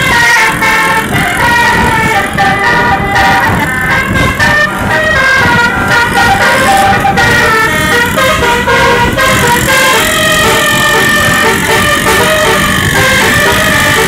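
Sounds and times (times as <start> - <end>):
low rumbling noise: 0.0 - 14.0
tuned air horns playing melody: 0.0 - 14.0.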